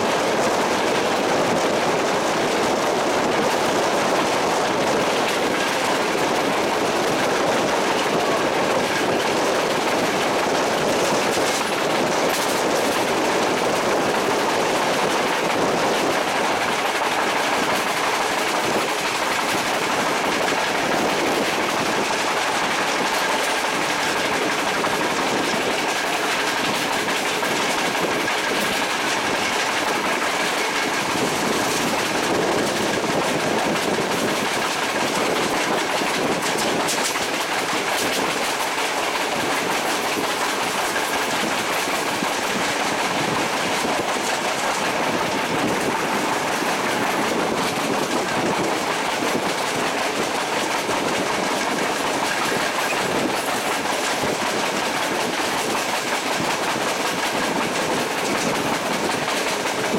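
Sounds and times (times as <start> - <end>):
train wheel-on-rail rumble: 0.0 - 59.9.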